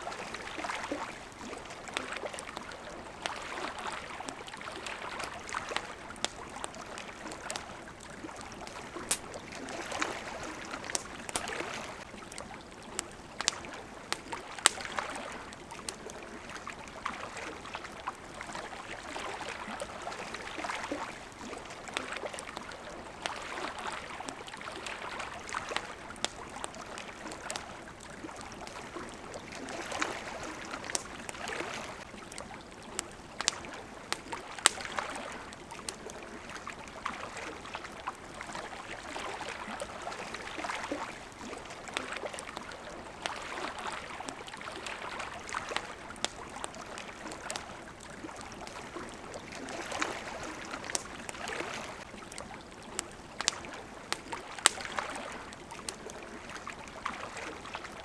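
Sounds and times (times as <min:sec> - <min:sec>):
campfire crackling and popping: 0:00.0 - 0:58.0
water lapping and trickling: 0:00.0 - 0:58.0.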